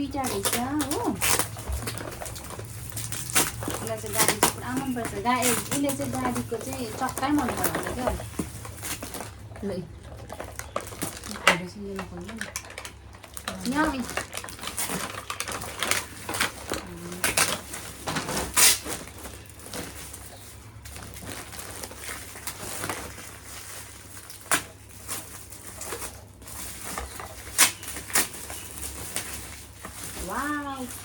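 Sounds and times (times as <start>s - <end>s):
packaging snapping: 0.0s - 31.0s
paper and plastic rustling: 0.0s - 31.0s.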